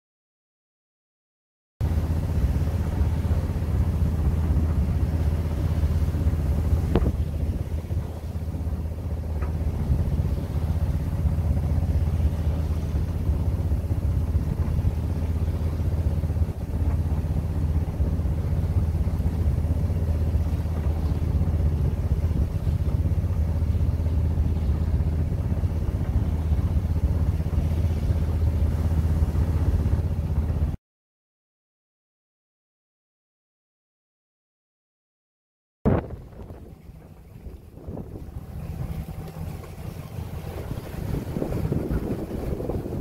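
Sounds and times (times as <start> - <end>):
boat engine droning: 1.8 - 30.8, 35.9 - 43.0.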